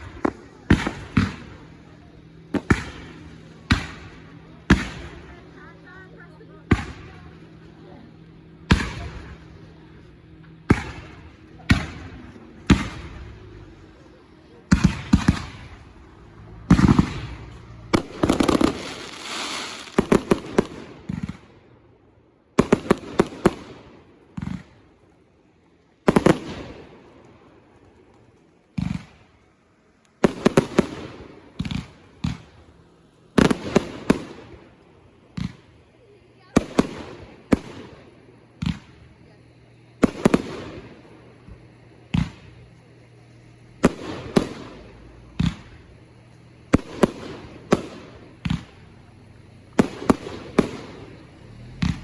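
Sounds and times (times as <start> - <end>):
fireworks bangs: 0.0 - 21.8, 22.5 - 25.4, 26.0 - 52.0
hissing firework crackle: 0.0 - 52.0.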